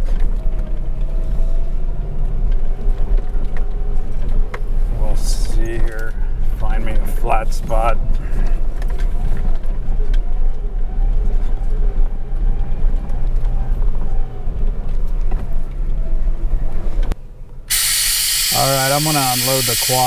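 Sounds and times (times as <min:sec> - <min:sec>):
truck engine rumbling: 0:00.0 - 0:20.0.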